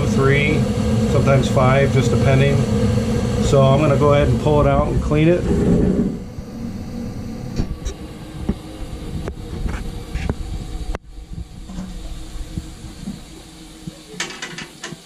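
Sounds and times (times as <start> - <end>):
gas furnace hiss and rumble: 0.0 - 15.0.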